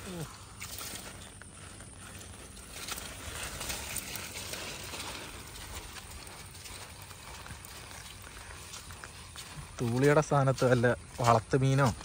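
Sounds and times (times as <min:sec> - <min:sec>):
wet net rustling and dripping: 0:00.0 - 0:11.8
footsteps squelching in mud: 0:00.0 - 0:12.0.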